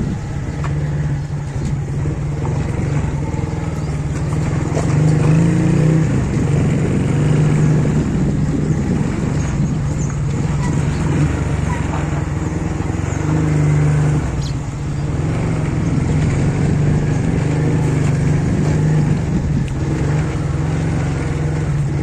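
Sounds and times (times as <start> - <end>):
car engine: 0.0 - 22.0
small motorcycle engine running: 0.0 - 22.0.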